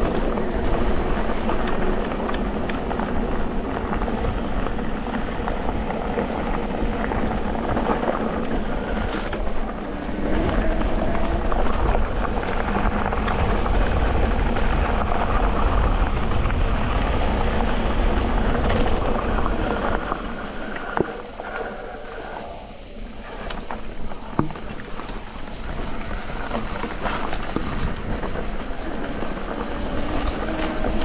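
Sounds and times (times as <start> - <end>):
bike rattling over bumps: 0.0 - 31.0
tyres rolling over dirt: 0.0 - 31.0.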